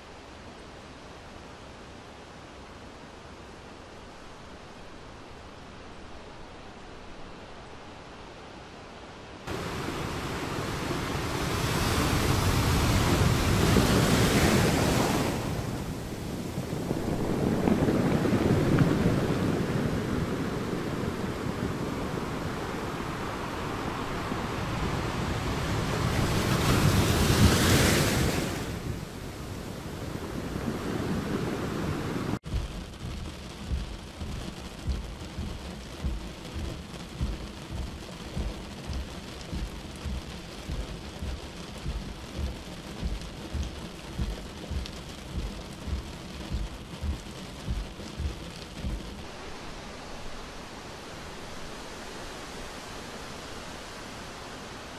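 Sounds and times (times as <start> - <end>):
rain: 0.0 - 54.9
rough churning sea: 0.0 - 54.9
surges of water: 0.0 - 54.9
wind: 0.0 - 54.9.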